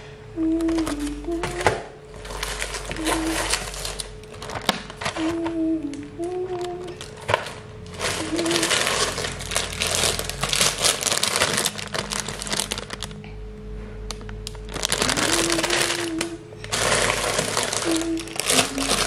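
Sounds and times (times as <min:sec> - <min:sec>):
plastic packaging crinkling: 0:00.6 - 0:13.2, 0:14.1 - 0:19.0.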